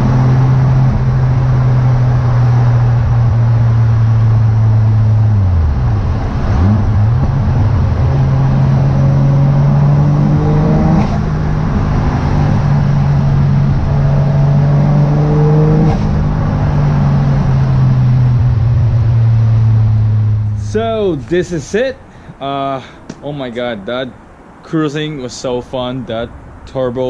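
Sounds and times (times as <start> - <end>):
car engine accelerating: 0.0 - 21.7.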